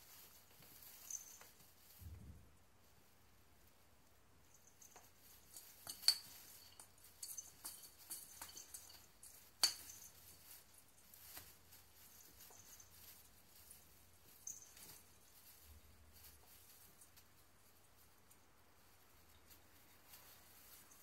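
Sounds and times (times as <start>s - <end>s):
rustling plastic branches: 0.0s - 21.0s.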